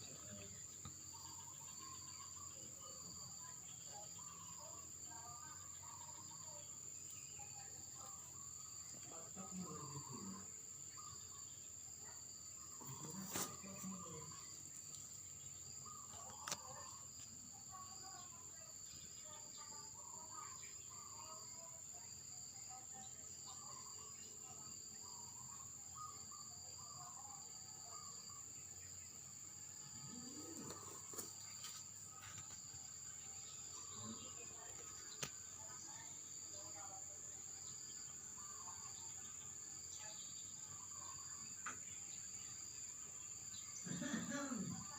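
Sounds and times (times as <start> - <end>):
crickets droning: 0.0 - 44.9.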